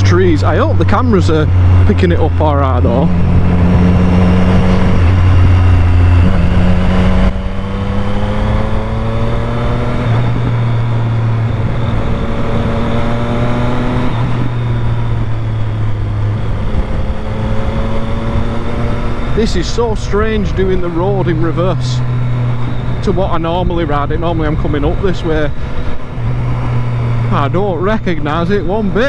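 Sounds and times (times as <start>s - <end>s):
motorcycle engine and exhaust: 0.0s - 29.0s.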